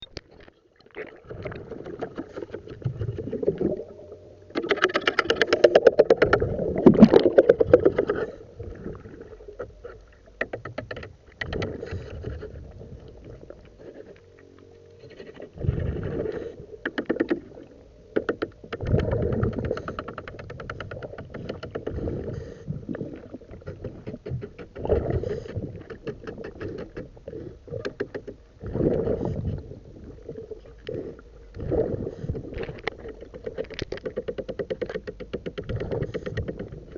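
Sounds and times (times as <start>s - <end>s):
muffled underwater hull cleaning: 0.2s - 36.9s.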